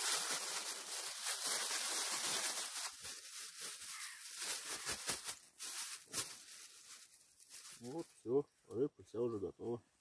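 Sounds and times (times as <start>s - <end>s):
plastic bag rustling: 0.0s - 8.2s.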